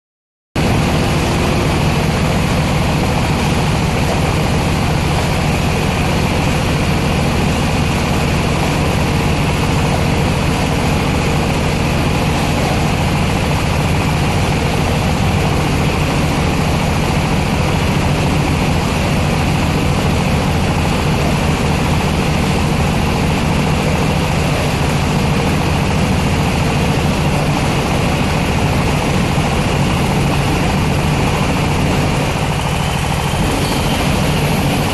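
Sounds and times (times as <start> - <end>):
diesel engine running: 0.6 - 34.9.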